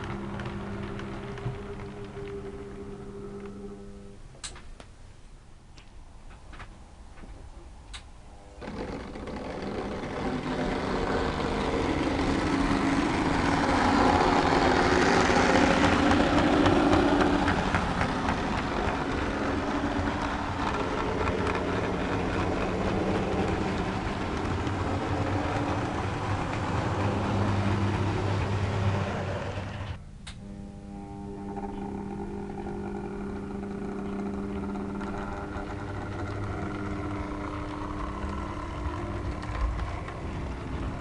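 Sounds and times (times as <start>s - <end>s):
model train motor hum: 0.0s - 3.9s, 8.4s - 41.0s
wheels on rails: 0.0s - 4.6s, 5.8s - 41.0s.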